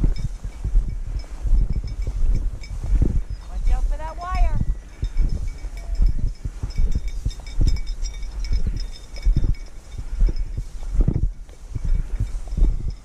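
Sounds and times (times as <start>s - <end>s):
faint metallic tinkling: 0.0s - 13.0s
footsteps walking: 0.0s - 13.0s
wind rumble: 0.0s - 13.0s.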